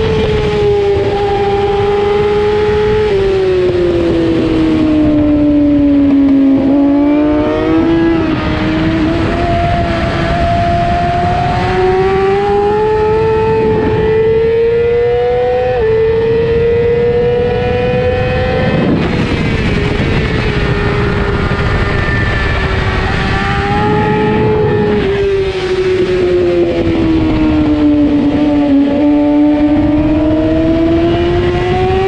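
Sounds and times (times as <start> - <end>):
motorcycle engine revving: 0.0 - 32.0
wind rush: 0.0 - 32.0.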